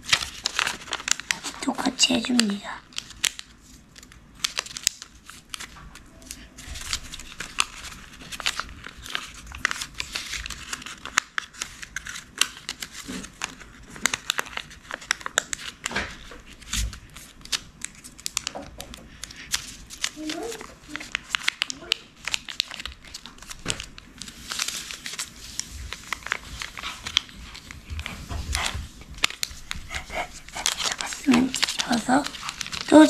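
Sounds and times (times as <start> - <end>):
paper folding and crinkling: 0.0 - 33.0.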